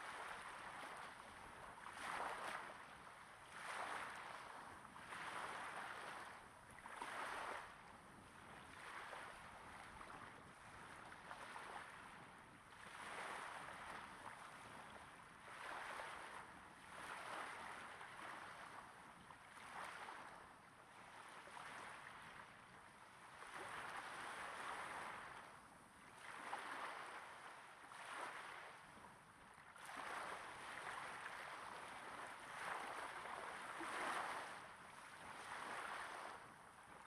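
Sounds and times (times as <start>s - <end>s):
small waves breaking on sand: 0.0s - 37.0s.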